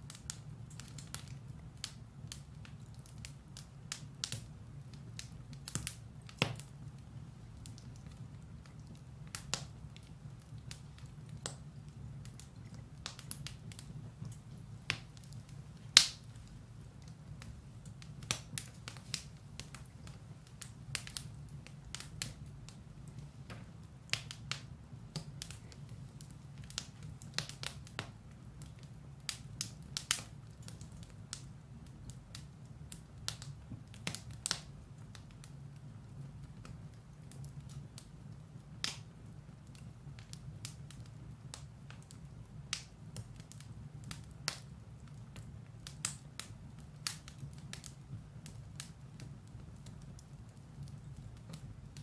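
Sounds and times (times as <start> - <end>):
firewood crackling and popping: 0.0 - 52.0
low rumble of fire: 0.0 - 52.0.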